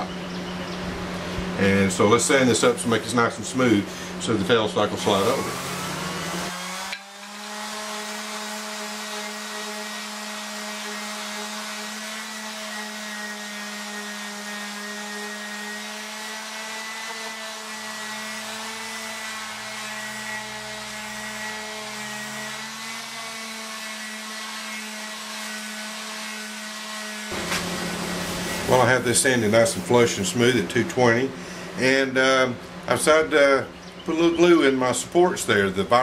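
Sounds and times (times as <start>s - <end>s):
electric sander running: 0.9s - 32.4s.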